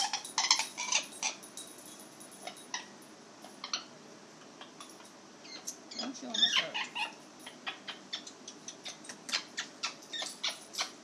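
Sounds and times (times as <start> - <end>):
parrot squawking and chirping: 0.0 - 1.4, 2.4 - 11.0.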